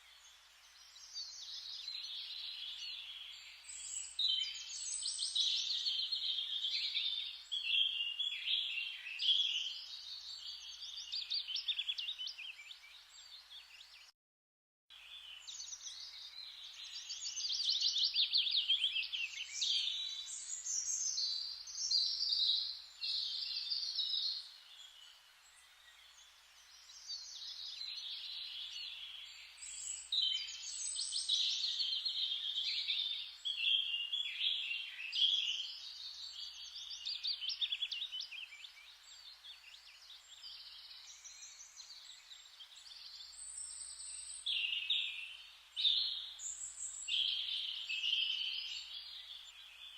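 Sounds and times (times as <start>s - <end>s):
small birds chirping and trilling: 0.0s - 14.1s, 14.9s - 49.9s.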